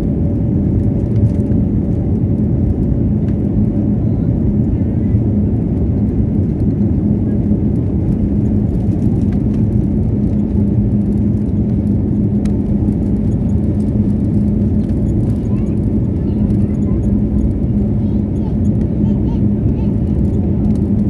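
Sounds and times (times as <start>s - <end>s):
airliner cabin engine rumble: 0.0s - 21.0s
constant low hum: 0.0s - 21.0s.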